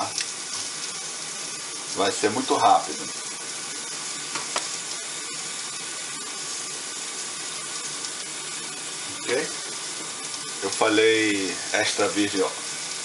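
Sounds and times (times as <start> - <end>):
peppers sizzling on grill: 0.0 - 13.0.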